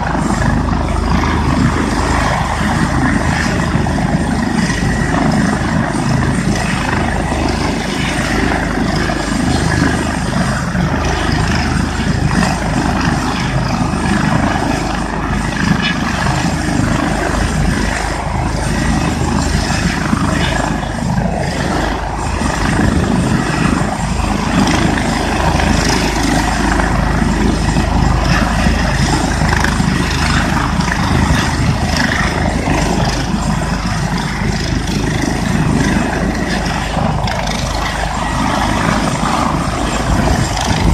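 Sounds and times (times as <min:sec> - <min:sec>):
helicopter turbine and rotors: 0:00.0 - 0:40.9
wind buffeting microphone: 0:00.0 - 0:40.9.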